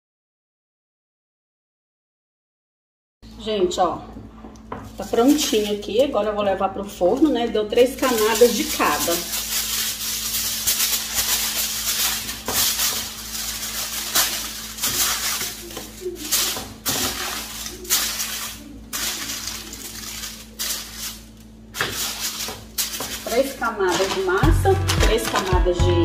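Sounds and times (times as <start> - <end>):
aluminium foil crinkling: 4.8 - 26.0.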